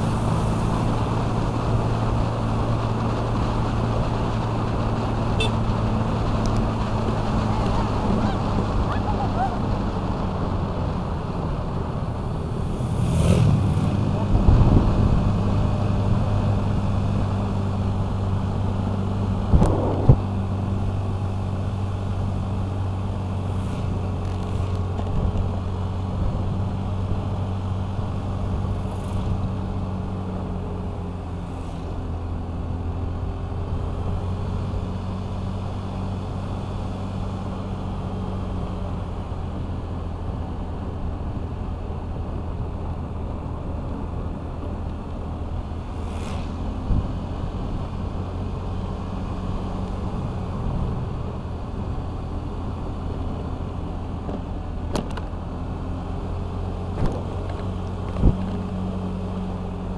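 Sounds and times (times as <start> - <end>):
wind and road rumble: 0.0 - 59.9.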